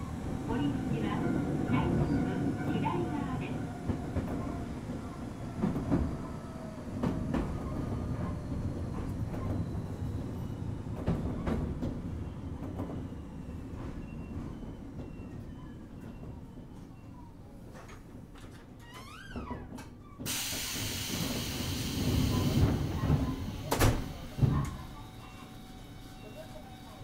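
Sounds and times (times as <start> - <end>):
electric railcar rumbling: 0.0 - 18.4, 19.7 - 27.0.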